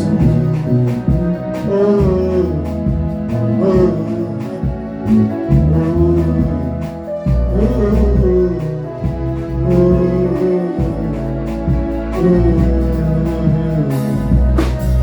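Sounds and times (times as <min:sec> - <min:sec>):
worship backing music: 0:00.0 - 0:15.0.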